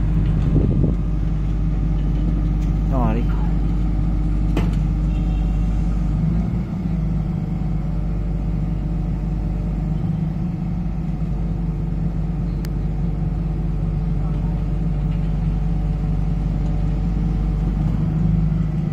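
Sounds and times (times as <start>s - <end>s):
heavy diesel engine droning: 0.0s - 18.9s.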